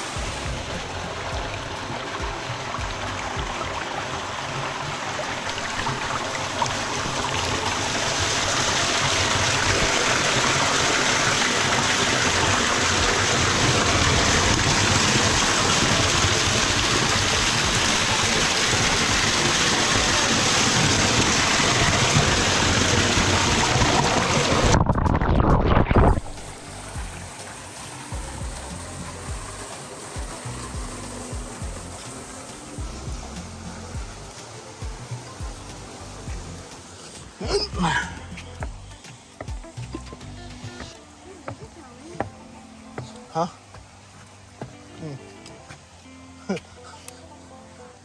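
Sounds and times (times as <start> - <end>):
creek water over waterfall: 0.0 - 48.0.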